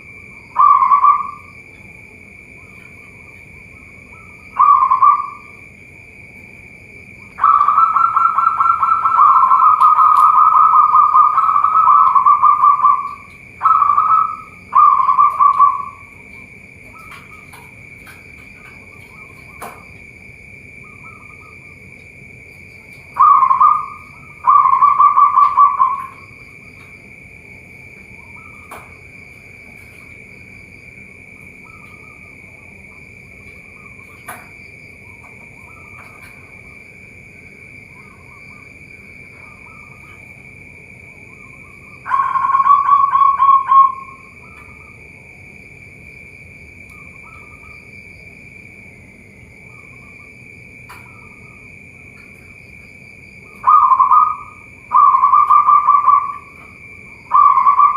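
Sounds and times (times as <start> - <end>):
steady high-pitched tone: 0.0 - 6.0, 6.6 - 20.0, 22.7 - 57.9
doves cooing: 0.0 - 45.1, 53.4 - 57.9.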